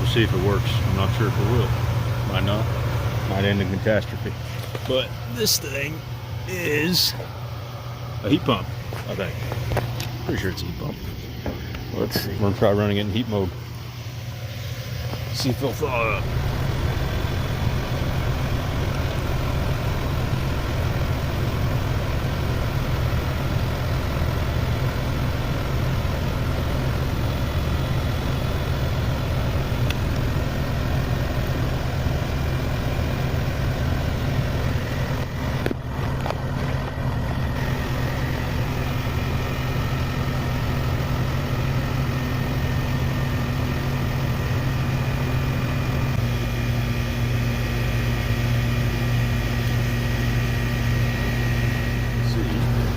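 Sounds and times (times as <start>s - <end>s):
heat pump humming: 0.0s - 52.9s.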